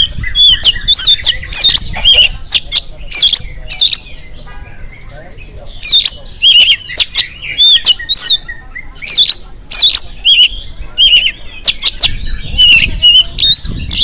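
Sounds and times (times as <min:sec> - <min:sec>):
bird singing: 0:00.0 - 0:14.0.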